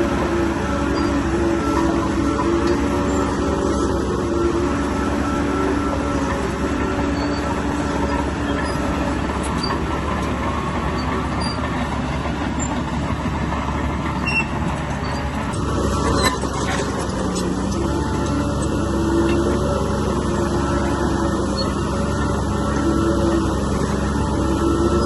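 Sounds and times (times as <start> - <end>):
bulldozer diesel engine: 0.0 - 25.0
steel track noise: 0.0 - 25.0
whining tone: 0.0 - 25.0.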